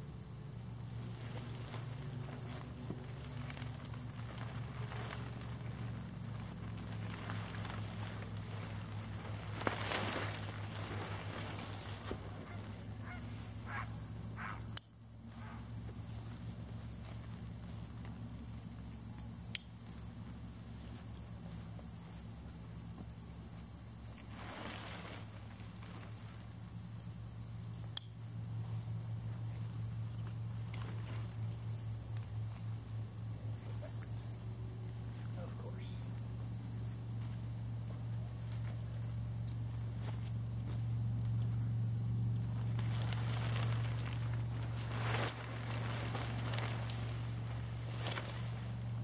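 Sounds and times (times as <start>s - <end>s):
insects droning: 0.0s - 49.0s
low steady hum: 0.0s - 49.0s.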